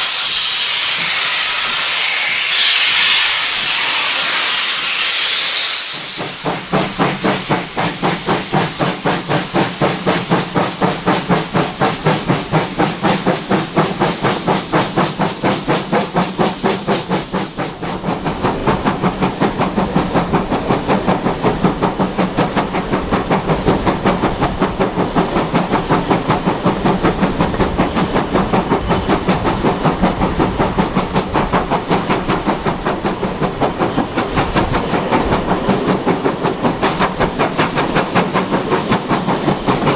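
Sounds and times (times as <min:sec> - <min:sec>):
hiss of steam: 0:00.0 - 0:39.9
steam locomotive chuffing: 0:00.0 - 0:39.9.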